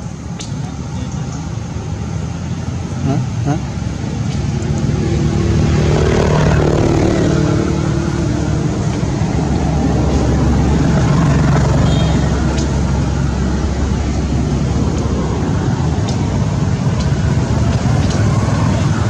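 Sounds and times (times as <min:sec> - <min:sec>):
motor engine humming: 0:00.0 - 0:19.0.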